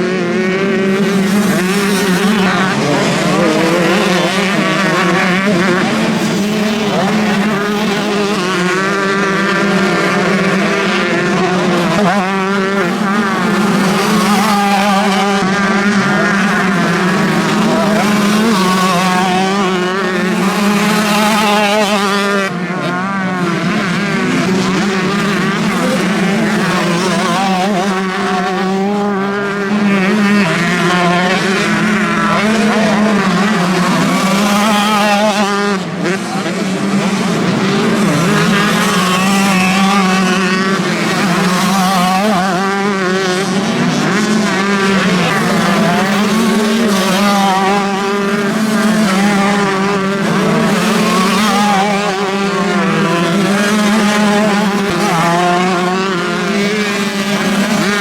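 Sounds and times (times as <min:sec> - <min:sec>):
motocross bikes revving: 0:00.0 - 0:58.0.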